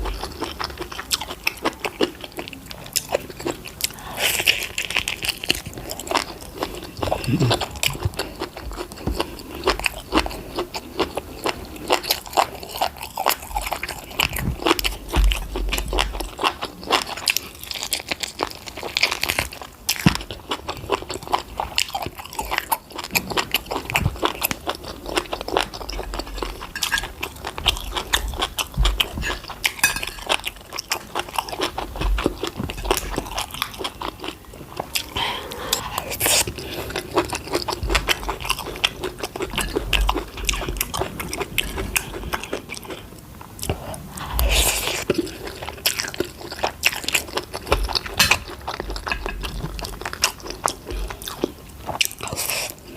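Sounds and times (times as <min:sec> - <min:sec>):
crunching fried food: 0:00.0 - 0:35.2, 0:36.0 - 0:43.8.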